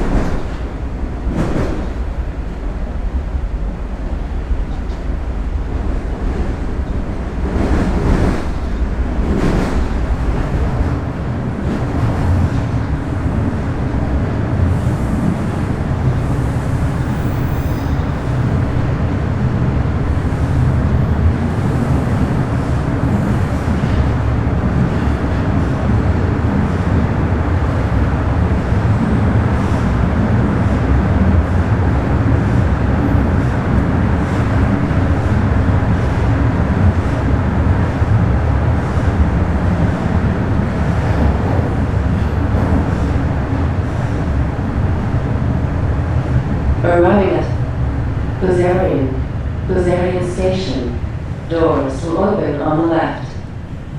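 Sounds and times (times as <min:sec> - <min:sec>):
subway train rumble: 0:00.0 - 0:53.9
train rattles: 0:00.0 - 0:53.9.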